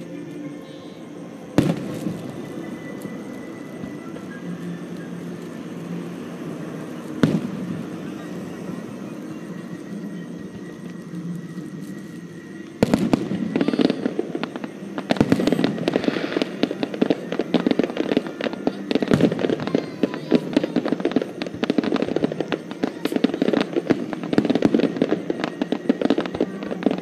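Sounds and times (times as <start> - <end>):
fireworks banging: 0.0 - 27.0
fireworks crackling pops: 0.0 - 27.0.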